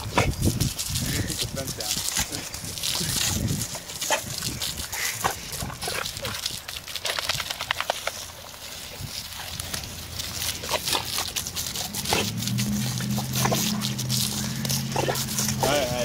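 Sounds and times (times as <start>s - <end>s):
hose water spraying: 0.0s - 16.0s.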